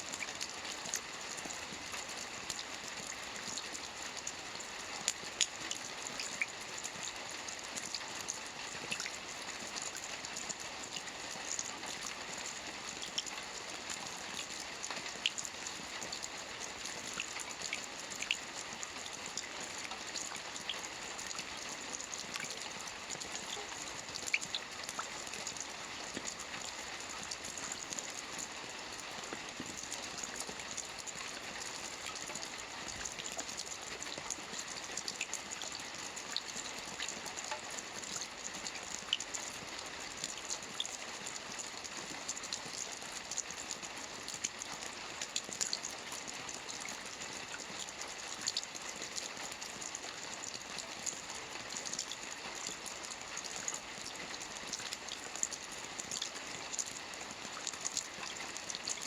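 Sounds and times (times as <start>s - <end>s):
gentle rain hiss: 0.0s - 59.0s
raindrops ticking: 0.1s - 59.0s.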